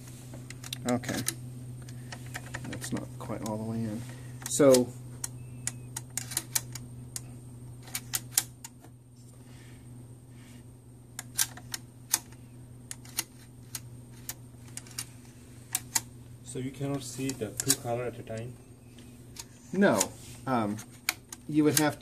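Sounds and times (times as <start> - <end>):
low hum: 0.0 - 21.5.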